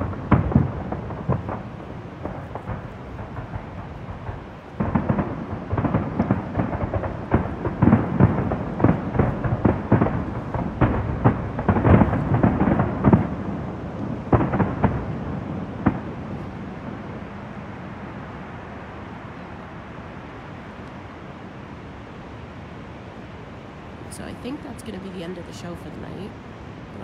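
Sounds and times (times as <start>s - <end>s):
fireworks booming: 0.0s - 20.8s, 23.9s - 27.0s.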